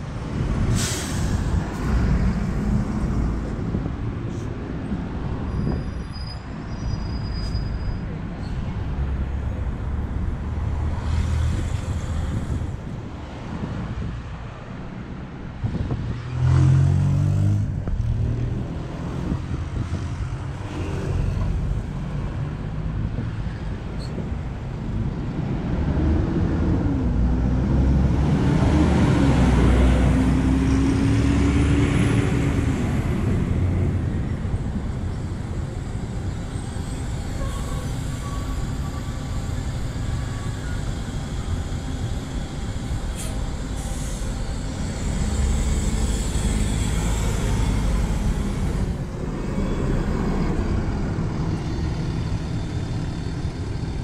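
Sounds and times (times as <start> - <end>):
bus diesel engines: 0.0 - 54.0
bus pulling away: 0.0 - 54.0
traffic noise: 0.0 - 54.0.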